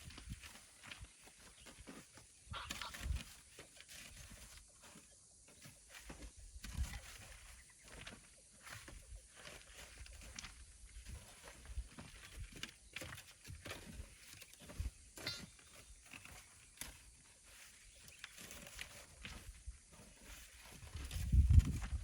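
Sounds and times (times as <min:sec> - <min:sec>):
footsteps: 0:00.0 - 0:22.0.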